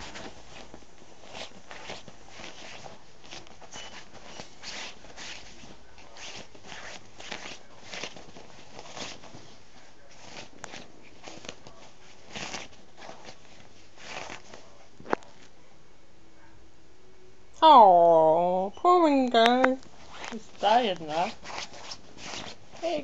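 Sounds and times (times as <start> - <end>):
pet scrambling on bedspread: 0.0 - 15.5, 19.9 - 23.0.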